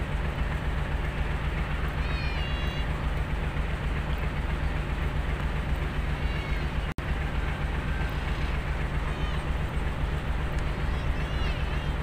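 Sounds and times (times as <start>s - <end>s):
locomotive engine rumbling: 0.0s - 12.0s.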